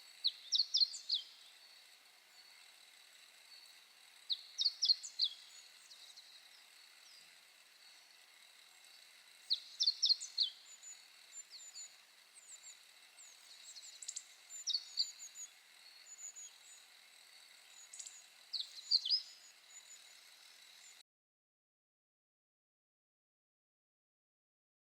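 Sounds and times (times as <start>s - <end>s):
faint steady hiss: 0.0s - 21.0s
small birds chirping: 0.0s - 21.0s.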